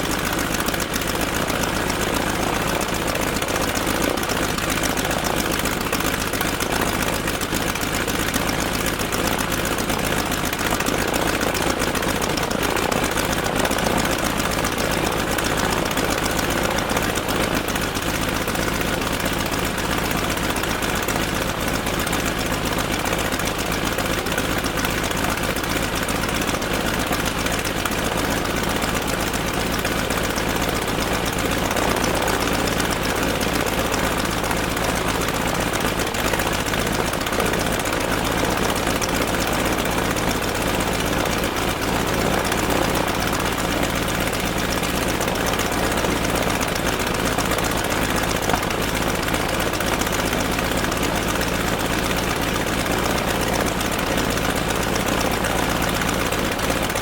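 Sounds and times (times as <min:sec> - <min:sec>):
aircraft engine idling: 0:00.0 - 0:57.0.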